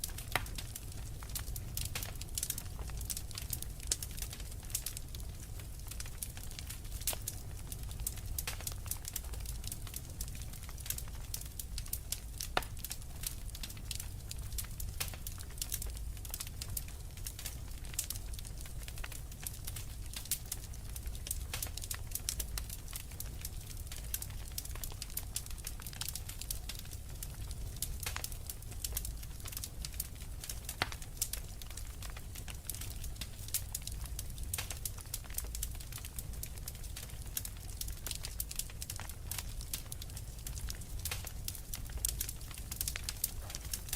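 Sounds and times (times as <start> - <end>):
low fire rumble: 0.0 - 43.9
wood fire crackling: 0.0 - 43.9.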